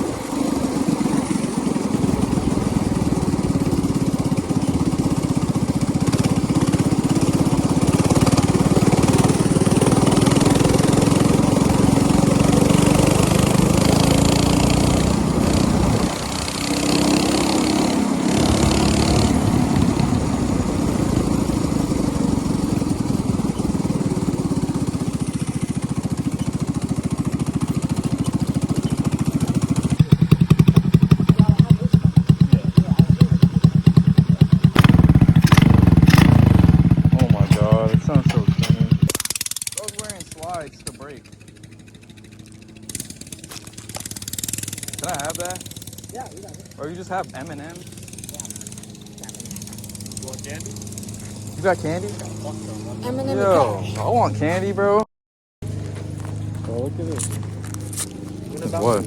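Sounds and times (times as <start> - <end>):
minibike engine running: 0.0 - 55.0, 55.6 - 59.0.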